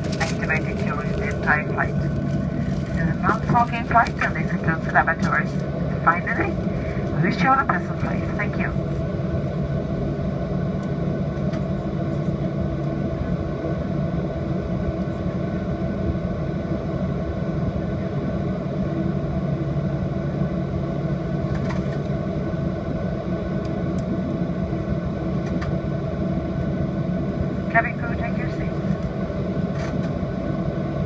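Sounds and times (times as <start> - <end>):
jet engine and cabin air hum: 0.0 - 31.0.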